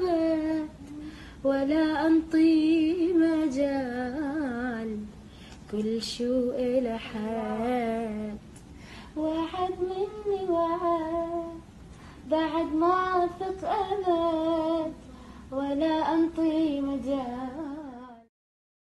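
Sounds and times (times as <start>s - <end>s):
woman singing unaccompanied: 0.0s - 18.3s.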